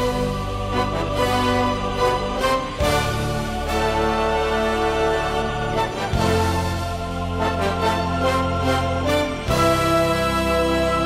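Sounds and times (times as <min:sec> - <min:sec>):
sustained instrumental chords: 0:00.0 - 0:11.0.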